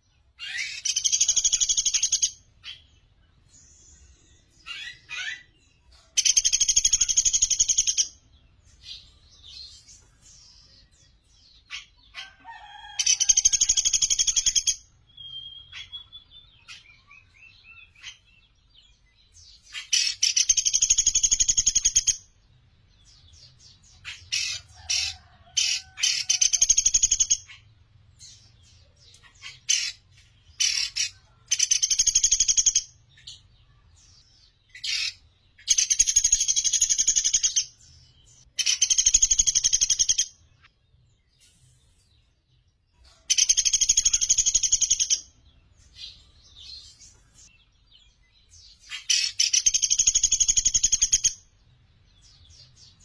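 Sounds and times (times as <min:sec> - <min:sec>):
bird singing rattling trills: 0:00.0 - 0:12.1, 0:13.0 - 0:40.7, 0:43.3 - 0:51.4.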